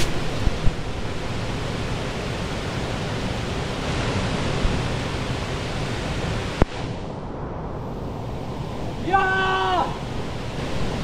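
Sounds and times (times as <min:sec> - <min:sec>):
waterfall rushing into pool: 0:00.0 - 0:07.0, 0:08.9 - 0:11.0.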